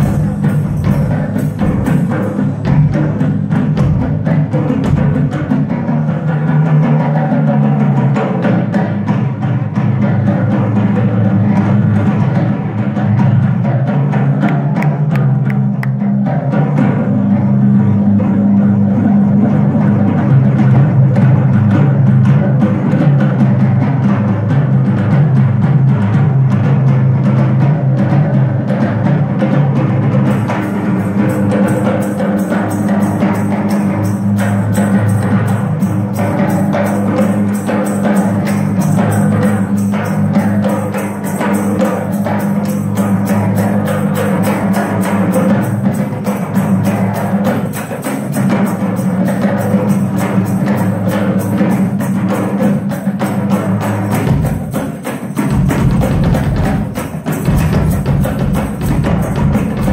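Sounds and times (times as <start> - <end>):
drum solo on toms: 0.0 - 59.9.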